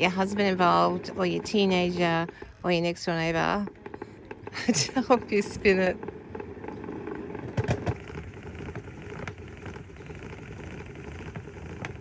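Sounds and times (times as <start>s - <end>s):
hand-cranked washing machine whirring: 0.0s - 12.0s.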